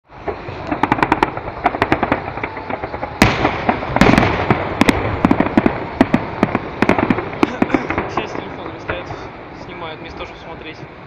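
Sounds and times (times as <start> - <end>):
fireworks big bang: 0.1 - 10.9
fireworks crackling pops: 0.1 - 10.9.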